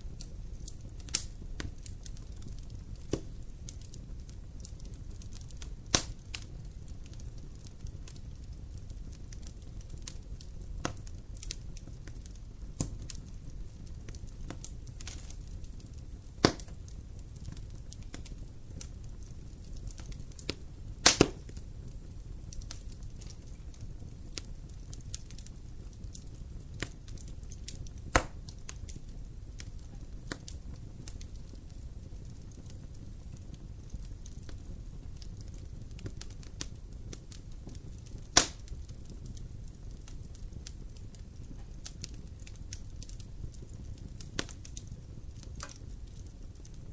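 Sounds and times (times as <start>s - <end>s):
wood fire rumbling and crackling: 0.0s - 46.9s.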